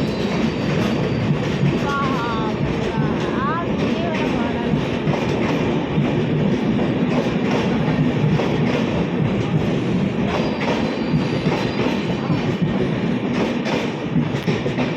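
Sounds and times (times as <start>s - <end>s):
train wheels clattering: 0.0s - 14.9s.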